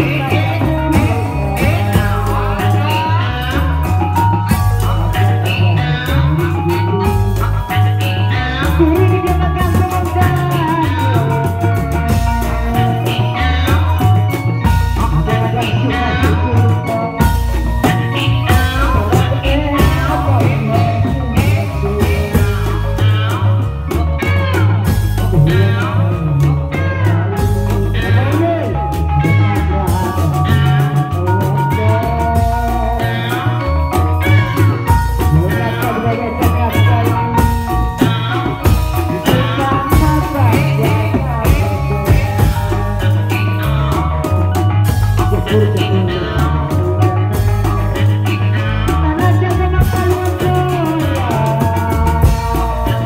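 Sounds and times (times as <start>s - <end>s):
person singing: 0.0s - 53.0s
repeating bass beat: 0.0s - 53.0s.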